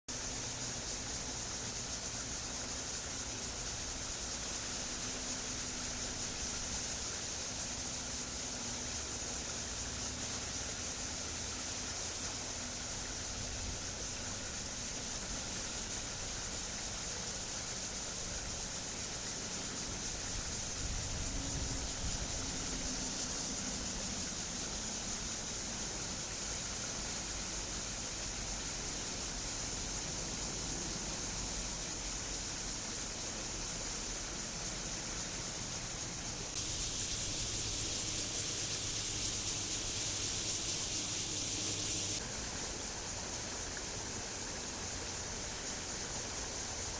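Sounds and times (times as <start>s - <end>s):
cicadas buzzing: 0.1s - 46.9s.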